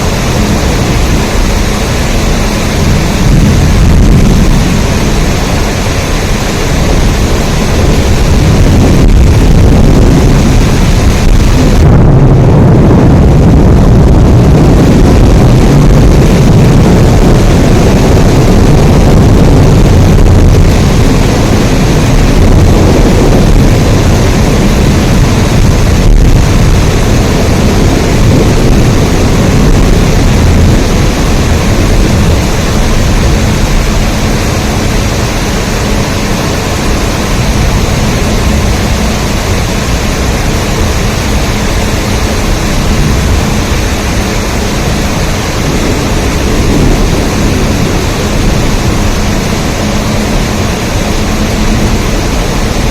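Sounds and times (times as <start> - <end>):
heavy rain: 0.0 - 52.9.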